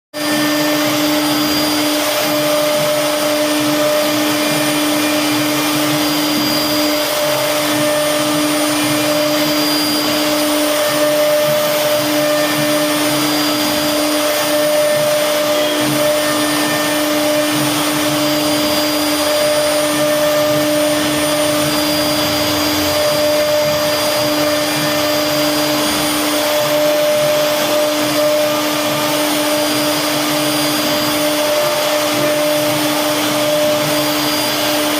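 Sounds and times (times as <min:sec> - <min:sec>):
hiss of wood cutting: 0:00.2 - 0:34.9
router spindle motor whine: 0:00.2 - 0:34.9.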